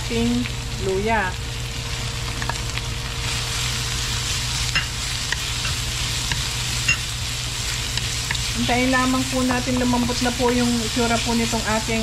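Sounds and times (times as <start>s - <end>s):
low hum: 0.0s - 12.0s
vegetables sizzling in hot oil: 0.0s - 12.0s.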